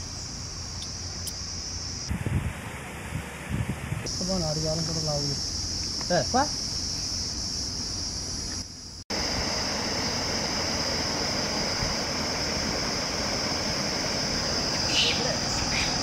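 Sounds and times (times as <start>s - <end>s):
high insect buzz: 0.0s - 16.0s.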